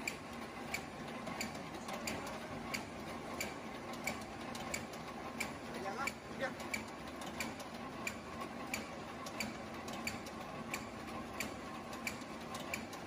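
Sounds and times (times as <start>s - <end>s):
paper bag machine running: 0.0s - 13.0s
sharp machine clicks: 0.0s - 13.0s.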